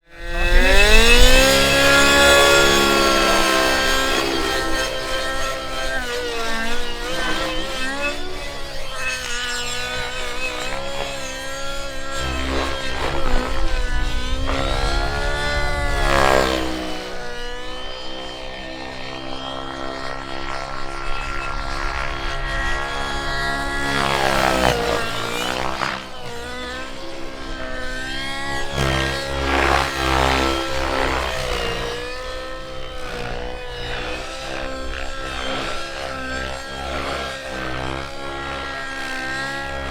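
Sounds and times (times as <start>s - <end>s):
model engine at high revs: 0.0s - 39.9s.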